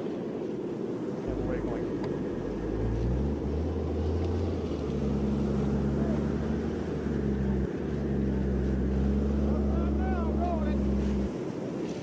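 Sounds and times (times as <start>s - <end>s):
vehicle engines rumbling: 1.2s - 11.6s.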